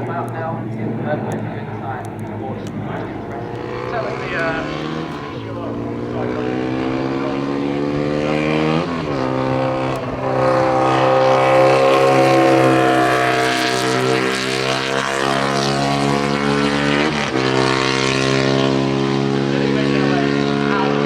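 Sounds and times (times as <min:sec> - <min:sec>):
engine droning: 0:00.0 - 0:21.0.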